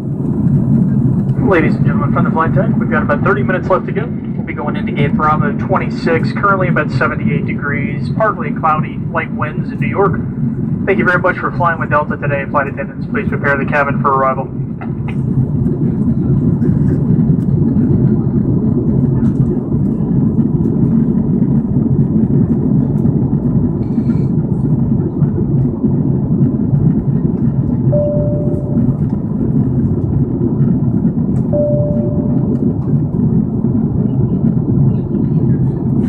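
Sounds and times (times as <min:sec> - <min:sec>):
airplane cabin engine noise: 0:00.0 - 0:36.0.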